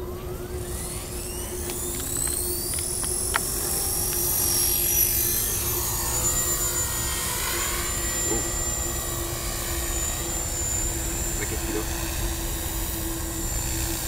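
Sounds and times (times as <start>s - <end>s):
model helicopter motor and rotor whine: 0.0s - 14.0s.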